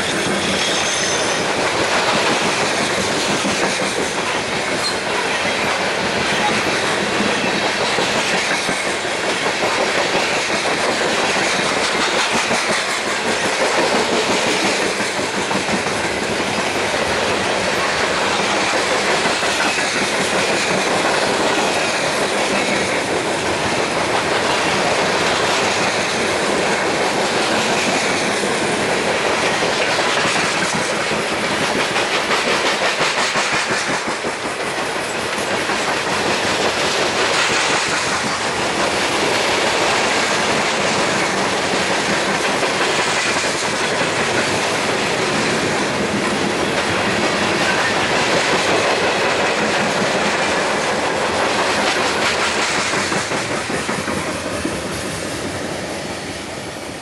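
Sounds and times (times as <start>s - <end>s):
clickety-clack over rail joints: 0.0s - 56.7s
freight train wheels rumbling: 0.0s - 57.0s.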